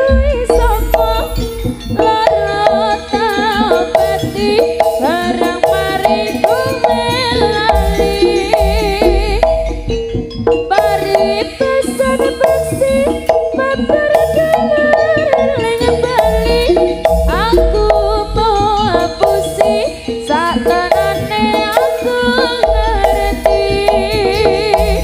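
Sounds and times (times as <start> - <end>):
drums and gongs beat: 0.0 - 25.0
wavering lead melody: 0.0 - 25.0.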